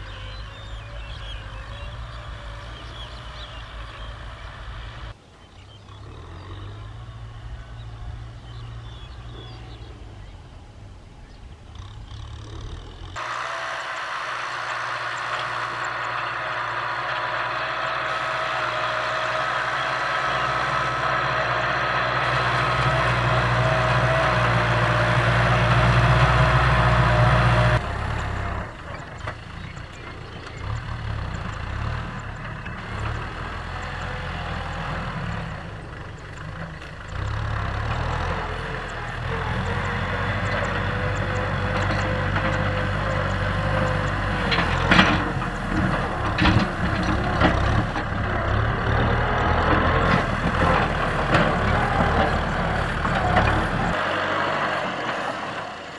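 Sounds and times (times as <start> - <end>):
tractor engine working hard: 0.0 - 55.9.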